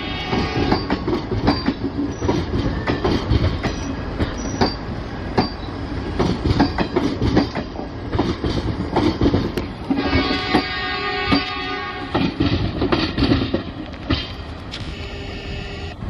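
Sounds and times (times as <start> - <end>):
wheels clicking over rail joints: 0.0 - 14.9
train coaches rumbling past: 0.0 - 16.0.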